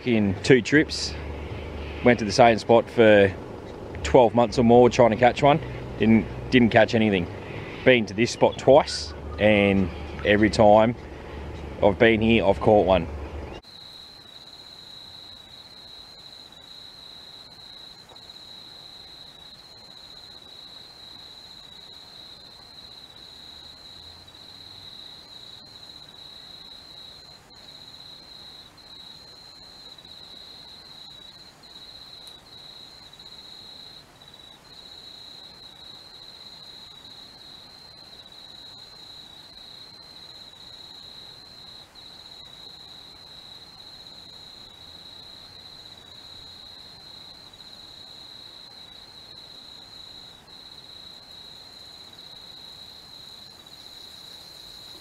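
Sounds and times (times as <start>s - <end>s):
night insects trilling: 0.0s - 12.9s, 13.6s - 55.0s.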